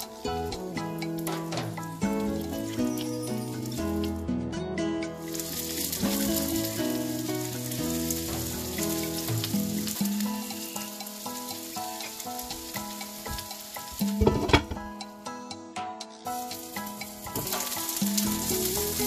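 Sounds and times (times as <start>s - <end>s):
chicken sizzling in oil: 0.0s - 4.3s, 5.1s - 15.4s, 16.2s - 19.0s.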